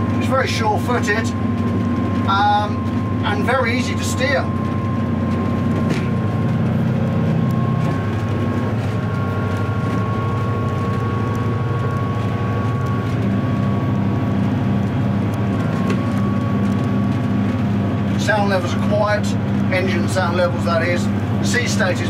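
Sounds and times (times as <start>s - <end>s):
boat diesel engine drone: 0.0s - 22.0s
thin steady whine: 0.0s - 22.0s.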